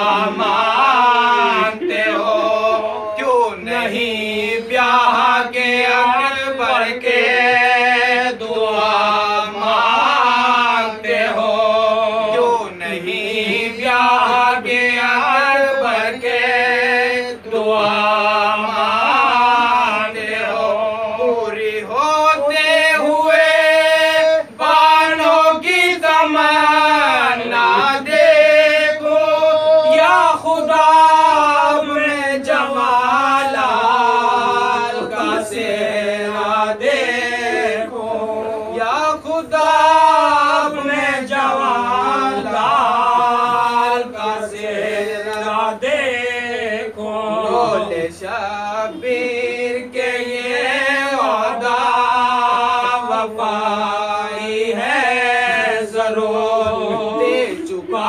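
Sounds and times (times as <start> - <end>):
men chanting unaccompanied: 0.0 - 58.0.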